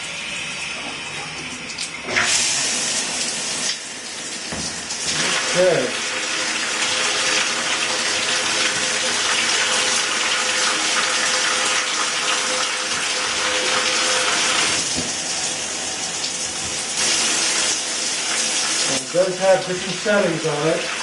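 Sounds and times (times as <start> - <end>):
shower head spraying water: 2.1 - 21.0.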